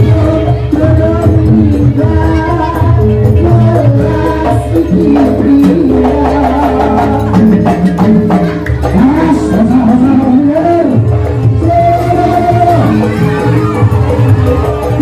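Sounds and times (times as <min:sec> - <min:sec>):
wavering melody line: 0:00.0 - 0:15.0.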